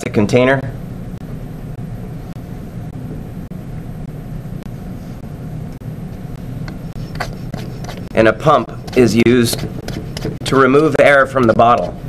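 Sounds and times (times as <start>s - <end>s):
low rumbling room hum: 0.0s - 12.0s.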